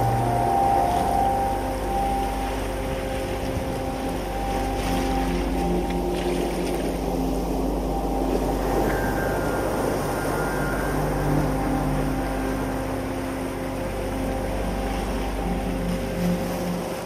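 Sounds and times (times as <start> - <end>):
ambient drone music: 0.0 - 17.0
tidepool water noise: 0.0 - 17.0.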